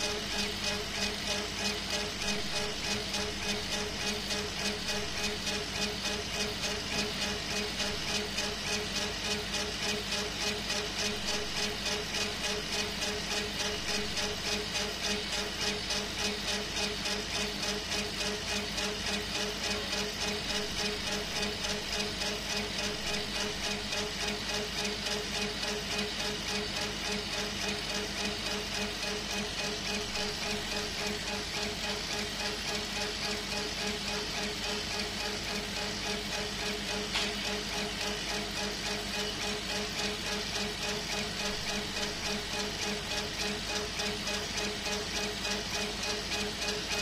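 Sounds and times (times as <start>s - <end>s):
laser engraver humming and pulsing: 0.0s - 47.0s.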